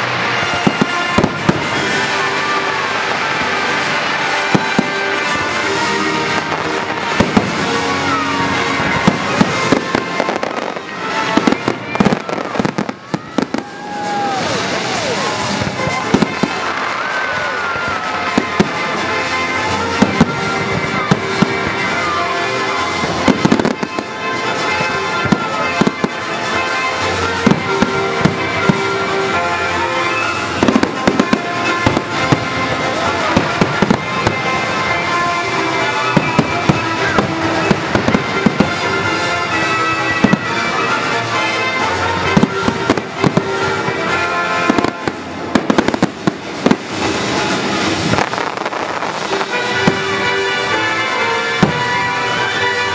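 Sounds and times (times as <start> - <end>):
fireworks bangs and crackles: 0.0 - 52.9
loud music: 0.0 - 52.9.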